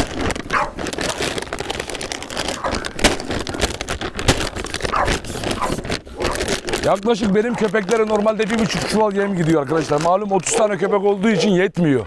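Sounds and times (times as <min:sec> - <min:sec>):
plastic sack crinkling: 0:00.0 - 0:11.6.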